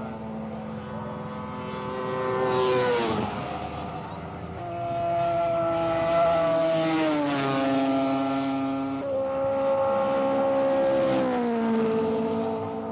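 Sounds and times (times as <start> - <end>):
racing motorcycles passing by: 0.0 - 12.9.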